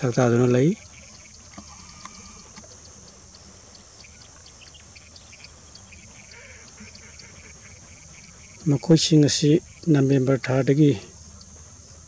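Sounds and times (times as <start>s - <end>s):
faint bird chirps: 0.0s - 12.0s
high-pitched insect drone: 0.0s - 12.0s
light regular ticking: 0.0s - 12.0s.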